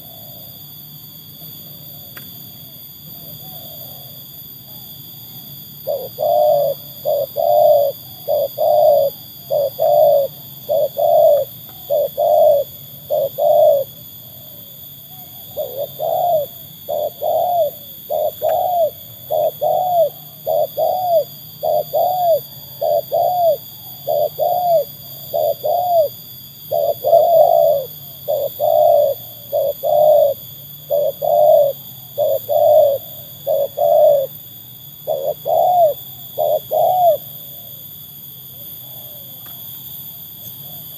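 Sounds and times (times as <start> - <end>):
dove cooing: 0.0 - 0.5, 1.9 - 37.8, 38.6 - 39.6.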